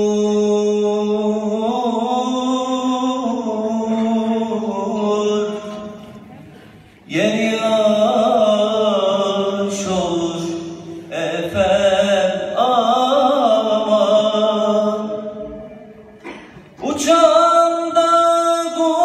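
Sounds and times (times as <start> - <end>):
man singing folk melody: 0.0 - 6.2, 7.0 - 15.6, 16.8 - 19.0.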